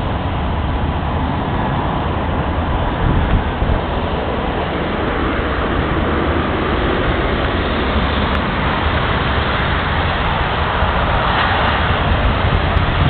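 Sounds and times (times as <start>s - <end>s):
jet engine rumble and hiss: 0.0s - 13.0s
wind rumbling on microphone: 0.0s - 13.0s.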